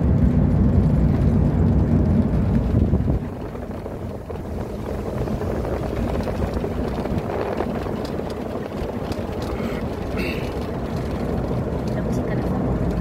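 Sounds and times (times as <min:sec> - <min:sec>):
vehicle driving on road: 0:00.0 - 0:13.0.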